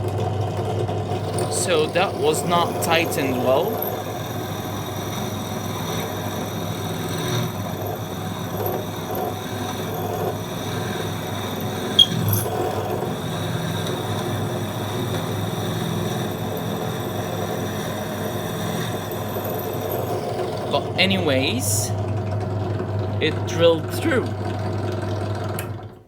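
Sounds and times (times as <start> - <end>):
drill press motor humming: 0.0 - 26.0
drill bit drilling through metal: 1.1 - 22.1, 23.2 - 24.8.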